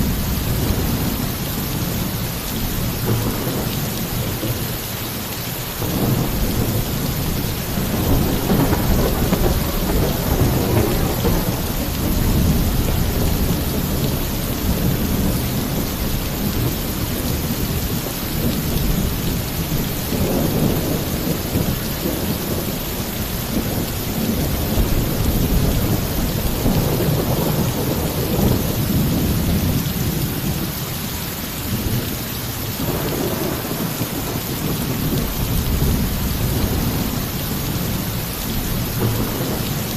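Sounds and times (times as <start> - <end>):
heavy rain on a roof: 0.0 - 39.9
rolling thunder: 5.6 - 30.8, 31.7 - 39.9.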